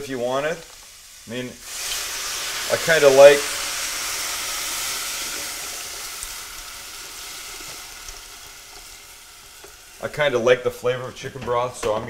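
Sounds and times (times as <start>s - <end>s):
vegetables sizzling in saucepan: 0.0s - 11.2s
broth pouring into pan: 0.4s - 10.3s.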